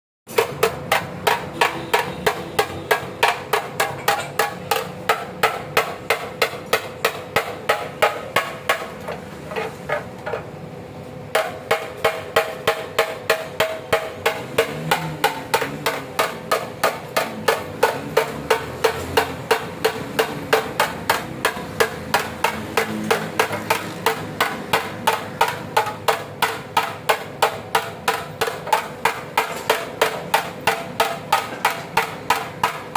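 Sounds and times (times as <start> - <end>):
hammer striking sheet metal: 0.3 - 10.4, 11.3 - 32.9.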